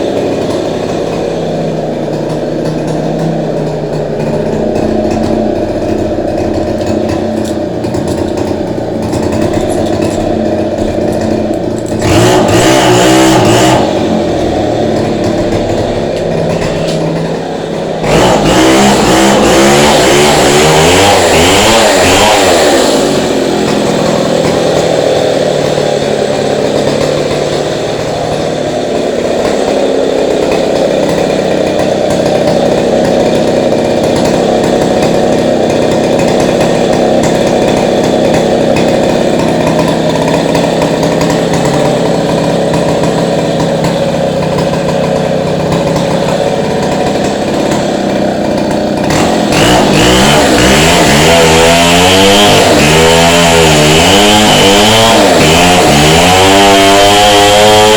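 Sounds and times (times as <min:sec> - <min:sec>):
chainsaw cutting masonry: 0:00.0 - 0:57.9.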